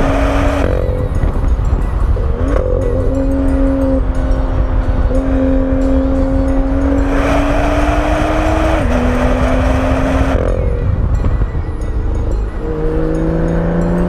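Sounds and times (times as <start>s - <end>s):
car engine droning: 0.0s - 14.0s
road and wind rumble: 0.0s - 14.0s.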